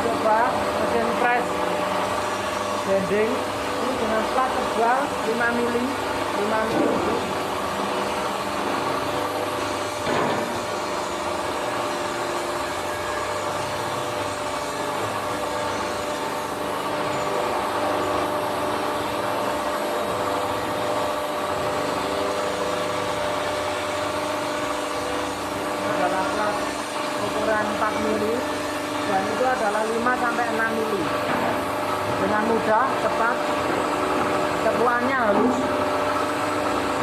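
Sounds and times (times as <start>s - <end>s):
hydraulic pump humming: 0.0s - 37.0s.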